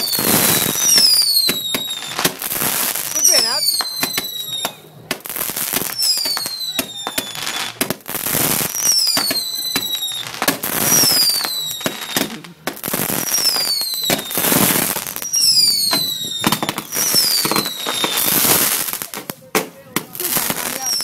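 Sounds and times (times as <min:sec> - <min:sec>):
firework whistles: 0:00.0 - 0:04.9, 0:05.7 - 0:19.0, 0:20.6 - 0:21.0
firework hissing bursts: 0:00.0 - 0:19.2
firework cracks: 0:00.0 - 0:21.0.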